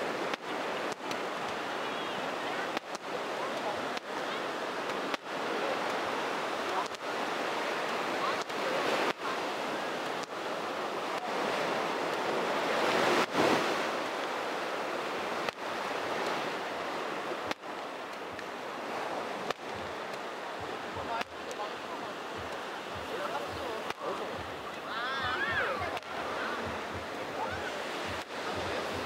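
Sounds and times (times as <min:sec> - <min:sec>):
small surf breaking on sand: 0:00.0 - 0:29.0.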